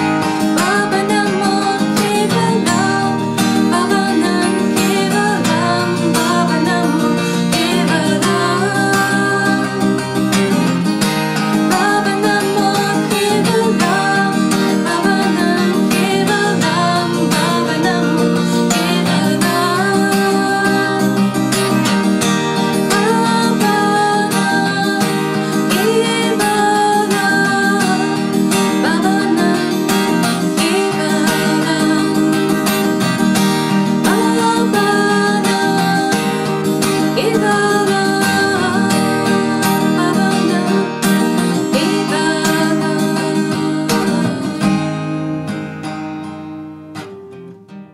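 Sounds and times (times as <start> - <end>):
acoustic guitar strumming chords: 0.0 - 47.9.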